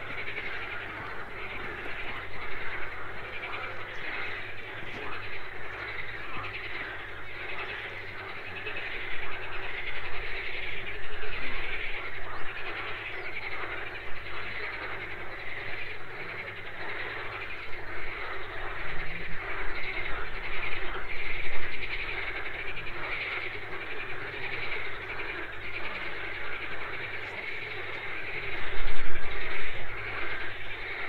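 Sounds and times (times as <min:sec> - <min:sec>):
chorus of animals calling: 0:00.0 - 0:31.0.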